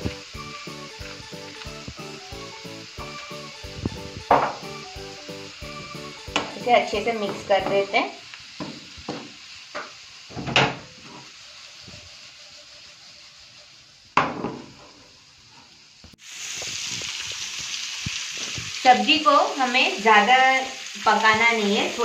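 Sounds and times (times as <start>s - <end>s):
vegetables sizzling: 0.0s - 22.0s.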